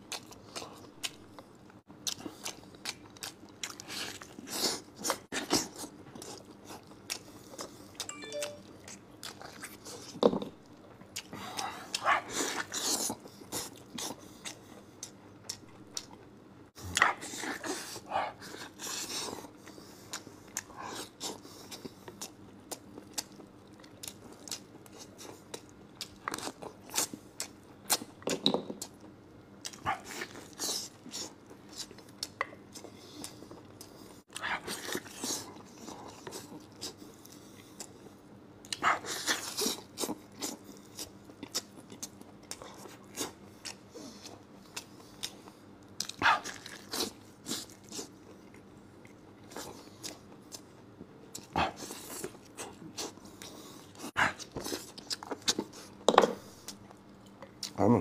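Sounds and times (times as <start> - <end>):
wet chewing and lip smacks: 0.1 - 10.2, 18.5 - 57.8.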